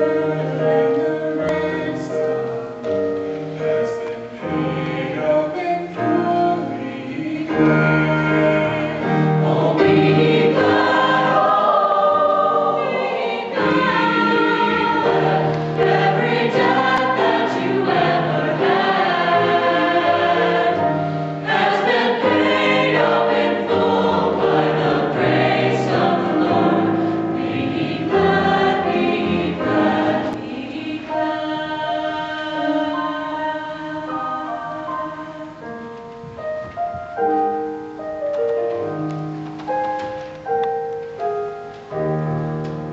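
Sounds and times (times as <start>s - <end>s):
choir singing gospel song: 0.0s - 35.8s.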